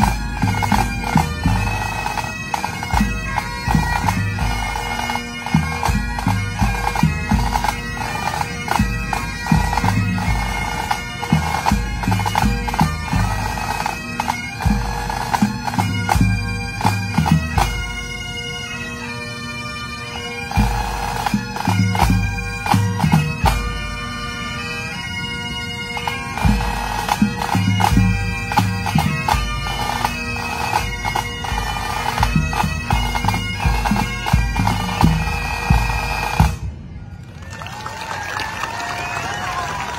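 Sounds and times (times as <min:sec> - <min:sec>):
bagpipe melody over drones: 0:00.0 - 0:37.3
pipe band playing: 0:00.0 - 0:39.9.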